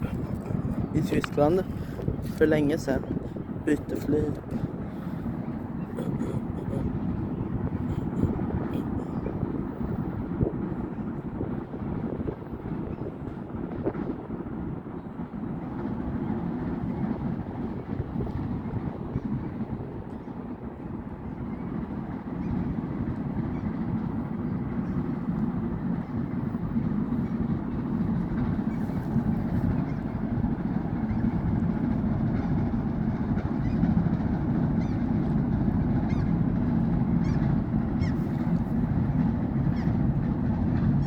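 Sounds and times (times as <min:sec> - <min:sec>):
ship engine rumble: 0:00.0 - 0:41.0.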